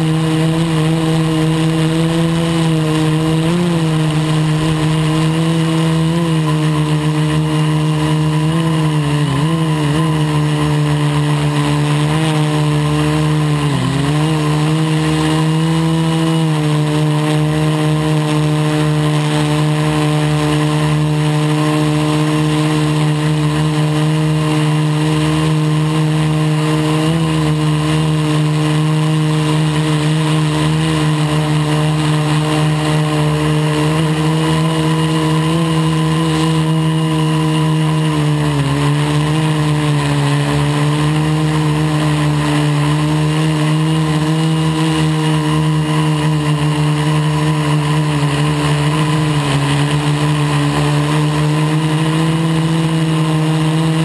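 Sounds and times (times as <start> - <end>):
quadcopter motors humming: 0.0 - 54.0.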